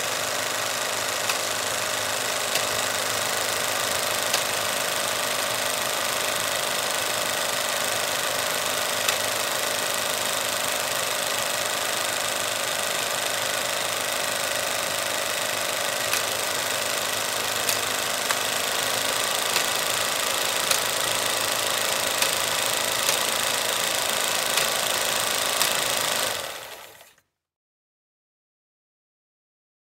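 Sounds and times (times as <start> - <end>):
film projector whirring: 0.0 - 27.2
projector click: 0.8 - 27.1.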